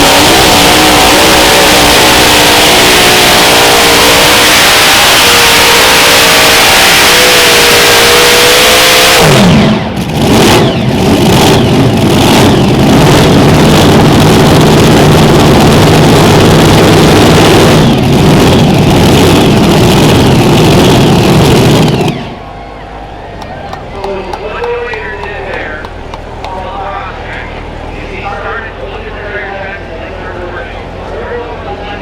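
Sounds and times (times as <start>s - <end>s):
tractor engines running at full throttle: 0.0s - 32.0s.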